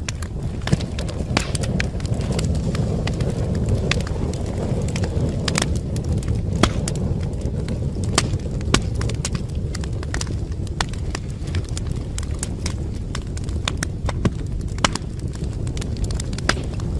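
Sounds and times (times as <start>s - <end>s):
fire crackling and popping: 0.0s - 16.9s
fire low rumble: 0.0s - 16.9s.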